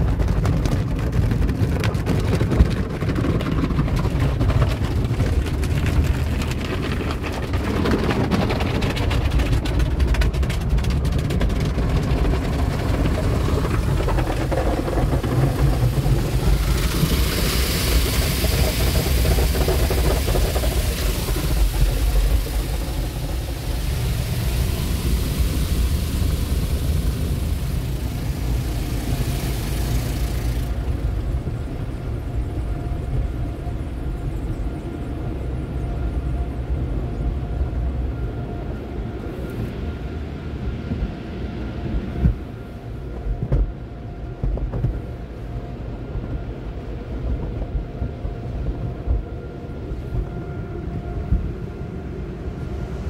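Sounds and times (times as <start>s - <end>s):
car wash machinery rumbling: 0.0s - 53.0s.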